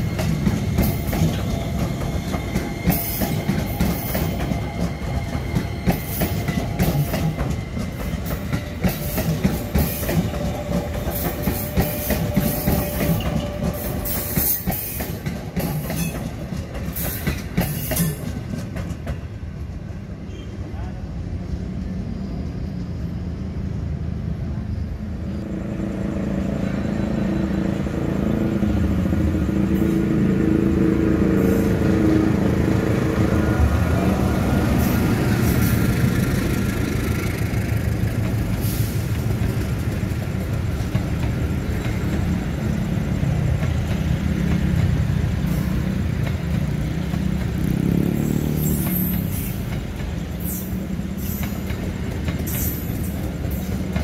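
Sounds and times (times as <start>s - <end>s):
heavy rumble of wheels on rail: 0.0s - 54.0s.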